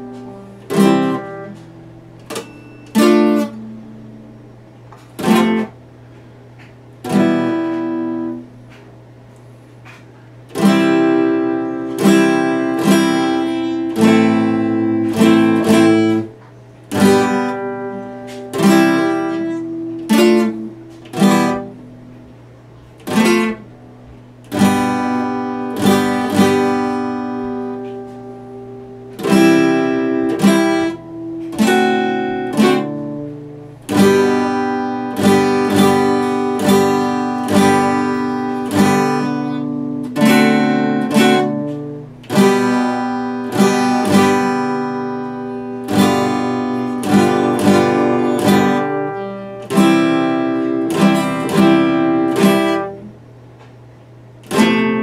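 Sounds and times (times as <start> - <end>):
acoustic guitar strummed chords: 0.0 - 55.0.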